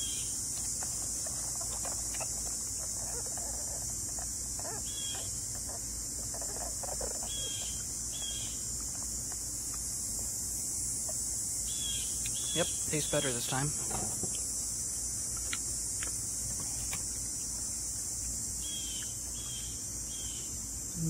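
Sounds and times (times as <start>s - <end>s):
crickets chorus: 0.0s - 21.0s.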